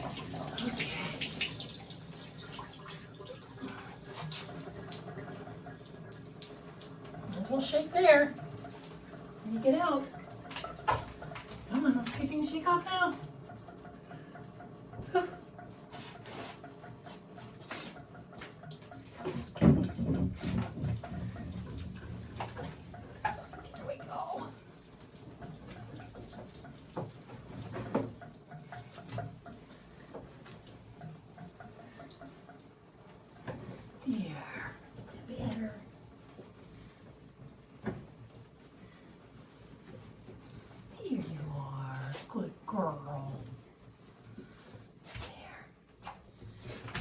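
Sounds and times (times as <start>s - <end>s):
water splashing in a bathtub: 0.0s - 47.0s.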